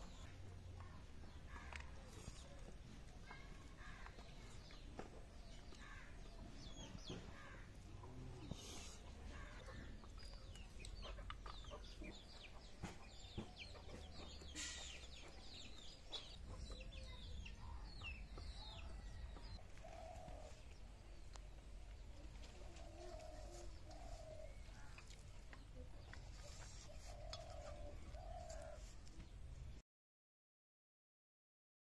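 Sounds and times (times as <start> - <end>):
small birds chirping: 0.0 - 29.4
chickens clucking: 0.1 - 29.3.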